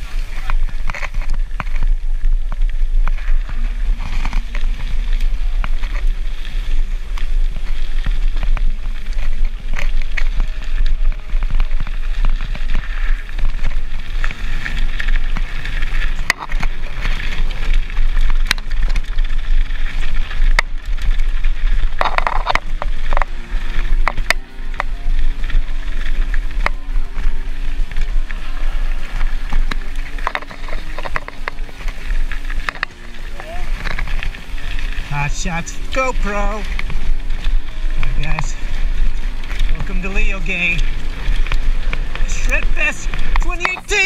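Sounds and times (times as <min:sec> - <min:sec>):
bike rattling and knocking: 0:00.0 - 0:44.0
wind rumble on microphone: 0:00.0 - 0:44.0.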